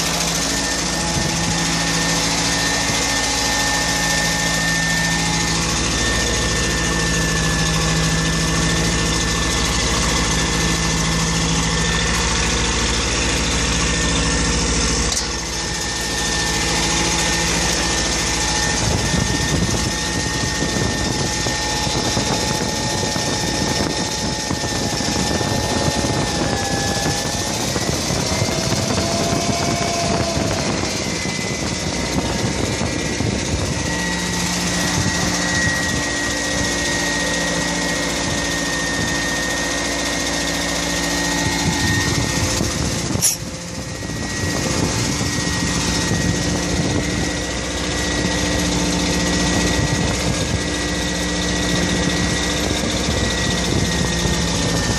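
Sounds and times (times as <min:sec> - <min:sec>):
engine running steadily: 0:00.0 - 0:54.9
hum: 0:00.0 - 0:54.9.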